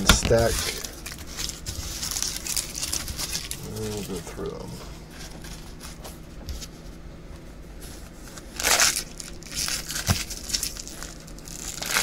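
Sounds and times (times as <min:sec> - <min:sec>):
foil wrappers crinkling: 0:00.0 - 0:06.8, 0:08.2 - 0:12.0.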